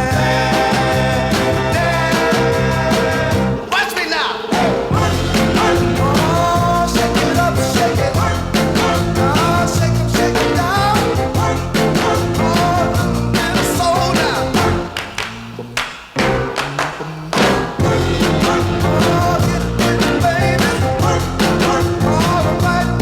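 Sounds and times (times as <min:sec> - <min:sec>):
music with singing and beat: 0:00.0 - 0:15.6, 0:16.2 - 0:23.0.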